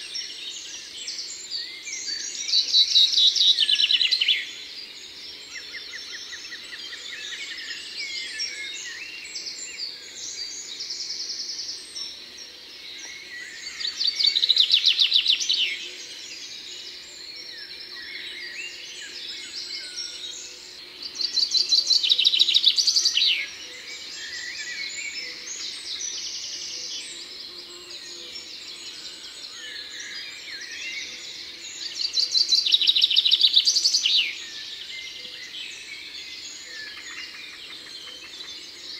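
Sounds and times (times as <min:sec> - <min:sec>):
birds twittering and chirping: 0:00.0 - 0:38.9.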